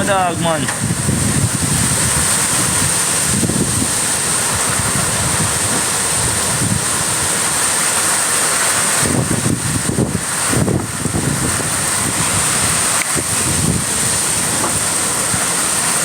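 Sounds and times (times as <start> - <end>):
strong wind blowing: 0.0 - 7.8, 8.9 - 16.0
wind gusts buffeting microphone: 0.0 - 8.2, 8.8 - 16.0.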